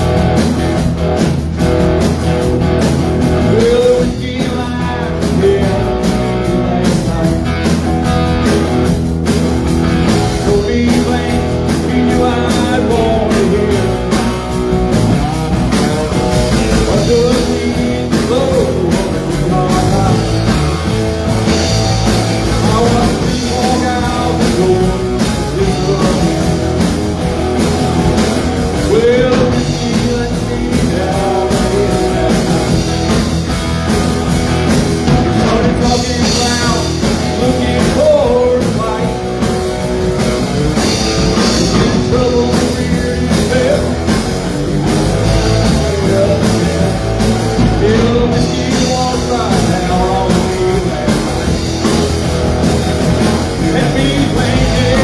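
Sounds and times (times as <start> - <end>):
live rock band with guitar: 0.0 - 55.0.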